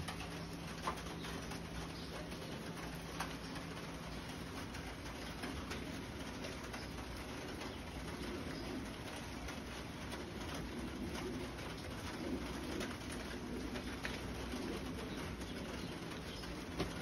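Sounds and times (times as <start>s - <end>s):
pigeon cooing: 0.0s - 17.0s
steady rain falling: 0.0s - 17.0s.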